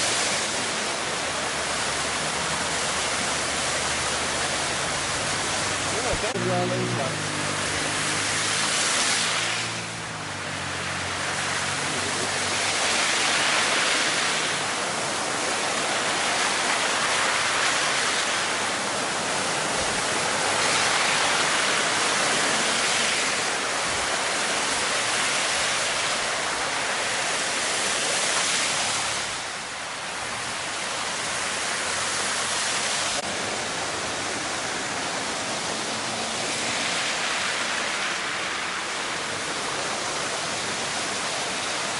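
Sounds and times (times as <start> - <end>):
cars splashing through water: 0.0 - 41.9.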